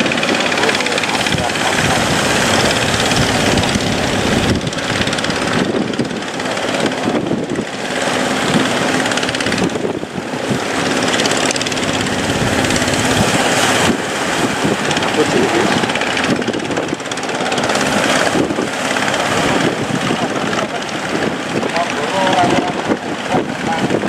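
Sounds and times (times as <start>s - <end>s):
boat engine hum: 0.0s - 24.0s
water rushing: 0.0s - 24.0s
wind: 0.0s - 24.0s.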